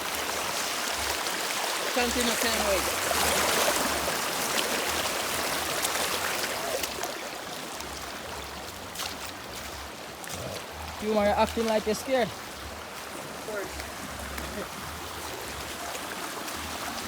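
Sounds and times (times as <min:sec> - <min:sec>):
river water rushing over stones: 0:00.0 - 0:17.0.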